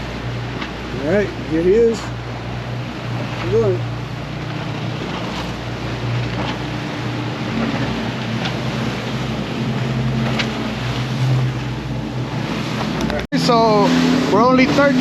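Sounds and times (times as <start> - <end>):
boat engine drone: 0.0 - 15.0
water rushing along hull: 0.0 - 15.0.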